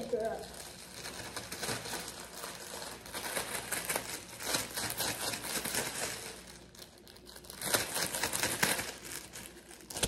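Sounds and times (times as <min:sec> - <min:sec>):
plastic bag shaken crinkling: 0:00.0 - 0:10.0.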